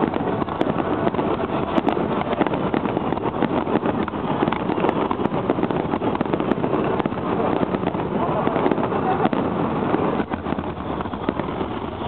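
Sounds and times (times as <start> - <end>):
fireworks crackling: 0.0 - 12.0
fireworks launching and bursting: 0.0 - 12.0.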